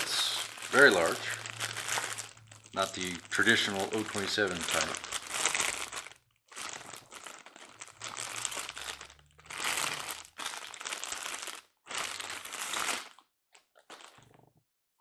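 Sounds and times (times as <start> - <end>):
plastic packaging crinkling: 0.0 - 14.5.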